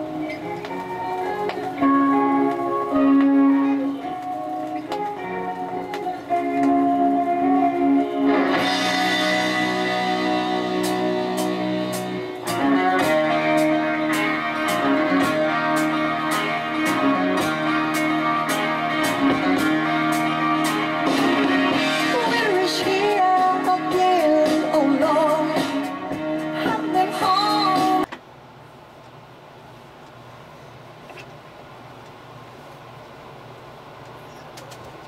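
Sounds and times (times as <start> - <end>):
guitar pop music from record: 0.0 - 28.1
person singing: 0.0 - 28.1.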